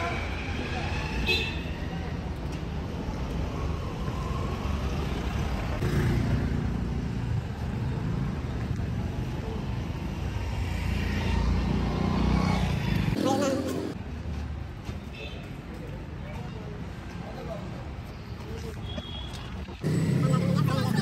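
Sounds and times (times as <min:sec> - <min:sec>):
traffic engines passing: 0:00.0 - 0:21.0.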